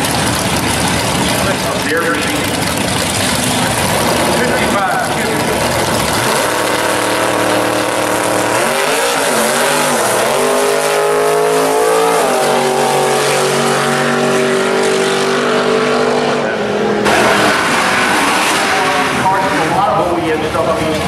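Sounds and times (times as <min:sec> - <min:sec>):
drag cars accelerating: 0:00.0 - 0:21.0.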